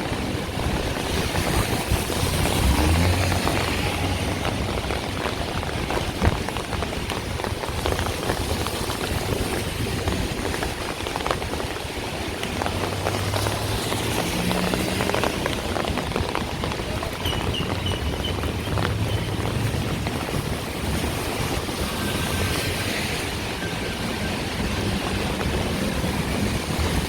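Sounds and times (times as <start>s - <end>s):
low hum of road traffic: 0.0s - 27.0s
rain falling: 0.0s - 27.0s.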